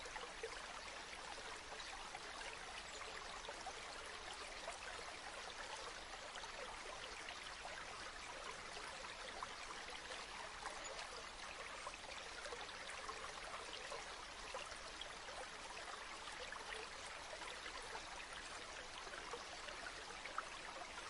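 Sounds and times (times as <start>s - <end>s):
river water flowing: 0.0s - 21.0s
small splashes and trickles: 0.0s - 21.0s.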